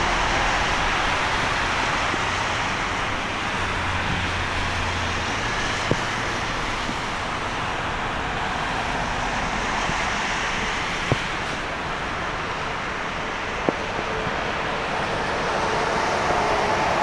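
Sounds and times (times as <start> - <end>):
faint engine whine: 0.0 - 17.0.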